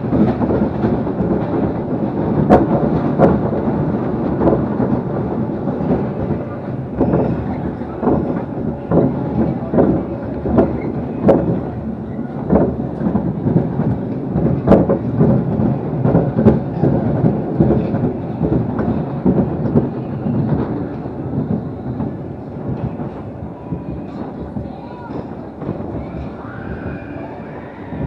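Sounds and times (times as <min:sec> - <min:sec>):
ride car rumbling on track: 0:00.0 - 0:28.0.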